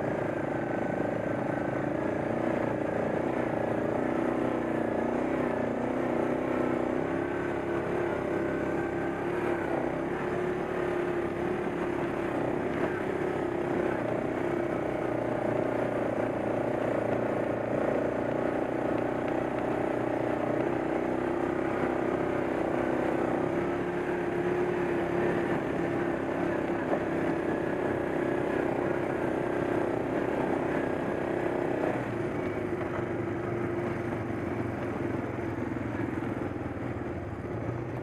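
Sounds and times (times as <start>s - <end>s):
atv engine running steadily: 0.0s - 38.0s.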